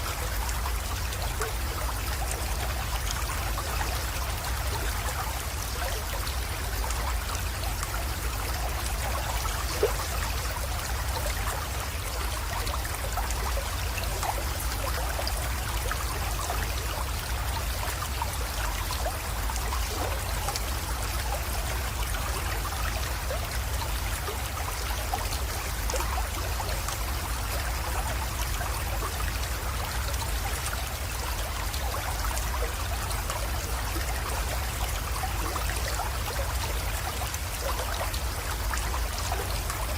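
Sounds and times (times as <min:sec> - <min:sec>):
creek water trickling into pond: 0:00.0 - 0:39.9.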